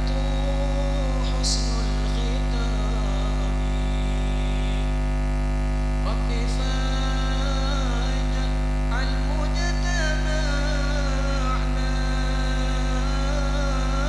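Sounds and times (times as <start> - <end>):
men singing through loudspeakers: 0.0 - 5.0, 6.0 - 14.0
loud mains hum: 0.0 - 14.0.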